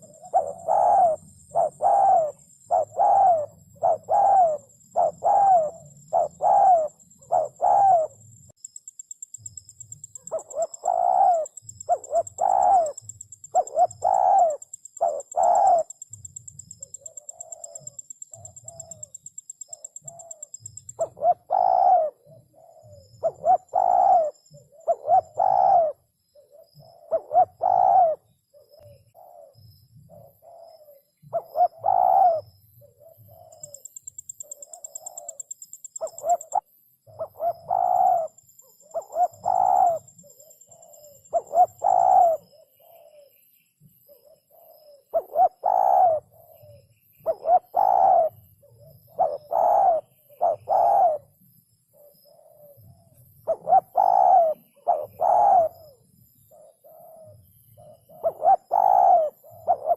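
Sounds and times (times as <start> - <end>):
dove cooing: 0.0 - 8.3, 9.4 - 43.4, 44.0 - 59.9.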